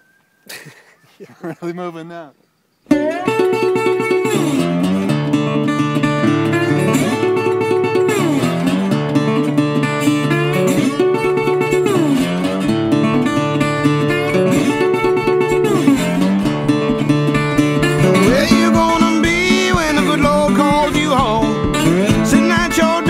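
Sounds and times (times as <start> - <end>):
blues acoustic guitar with slides: 2.9 - 23.0.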